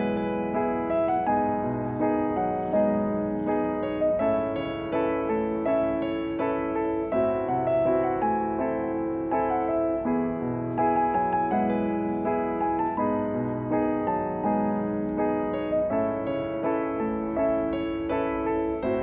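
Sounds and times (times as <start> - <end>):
background piano music: 0.0 - 19.0.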